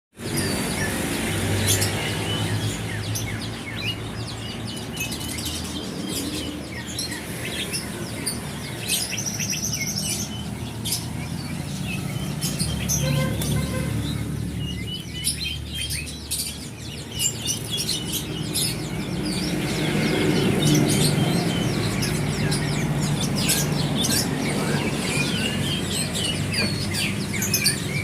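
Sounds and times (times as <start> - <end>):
songbirds chirping: 0.2 - 28.0.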